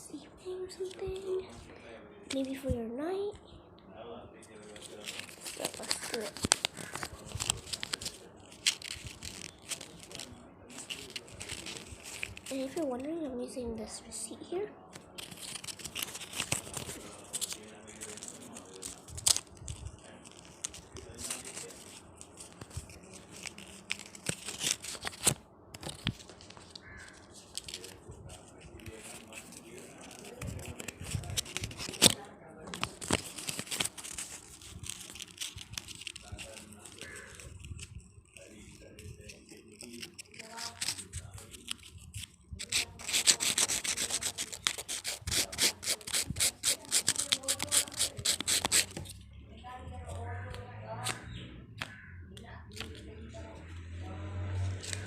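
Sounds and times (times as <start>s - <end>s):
paper receipt crinkling: 0.5s - 1.5s, 2.3s - 2.7s, 4.5s - 13.2s, 14.1s - 49.2s.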